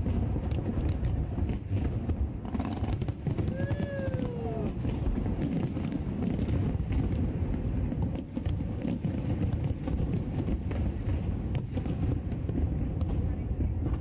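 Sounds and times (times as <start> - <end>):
fireworks bangs and crackles: 0.0 - 14.0
fireworks booming rumble: 0.0 - 14.0.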